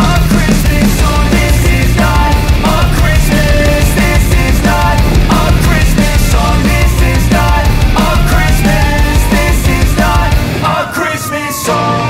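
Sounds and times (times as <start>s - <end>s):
steady drum beat: 0.0s - 10.6s
loud hard rock music: 0.0s - 12.0s.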